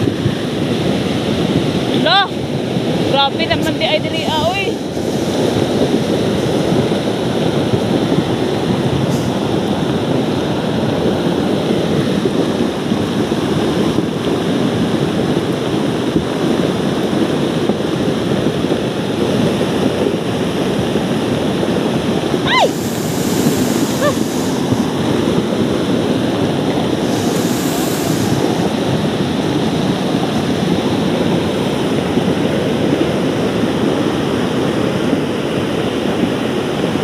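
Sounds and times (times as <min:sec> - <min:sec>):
heavy rain pouring: 0:00.0 - 0:37.0
rainwater running over ground: 0:00.0 - 0:37.0.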